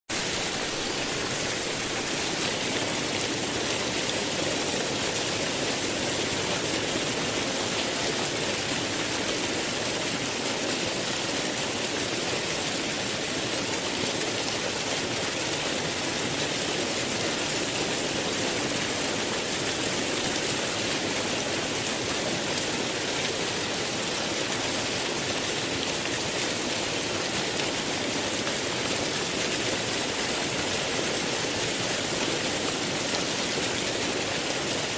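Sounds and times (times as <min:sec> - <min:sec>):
stream water flowing: 0:00.1 - 0:34.9.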